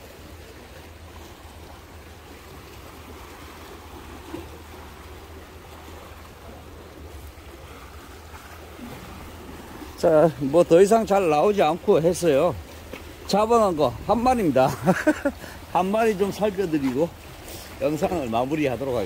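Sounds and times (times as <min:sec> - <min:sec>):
water washing against concrete: 0:00.0 - 0:19.0.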